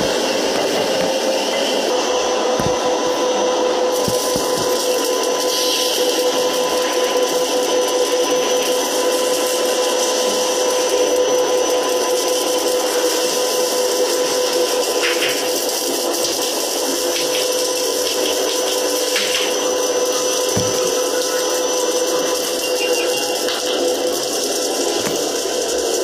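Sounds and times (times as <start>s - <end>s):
factory machinery drone: 0.0s - 26.0s.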